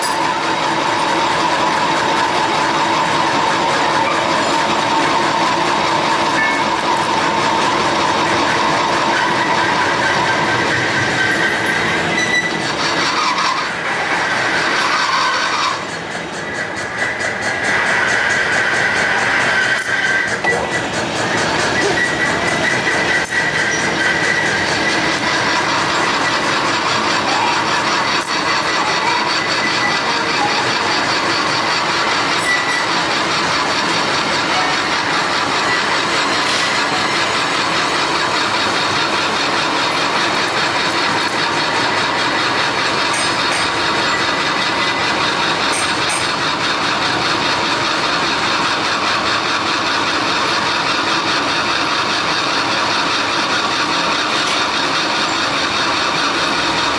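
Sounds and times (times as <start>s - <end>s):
metal lathe running: 0.0s - 56.9s.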